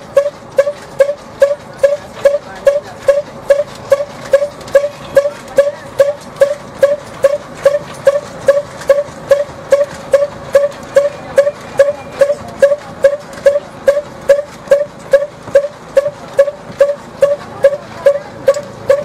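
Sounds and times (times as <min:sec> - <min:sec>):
machine knocking with ringing tone: 0:00.0 - 0:19.0.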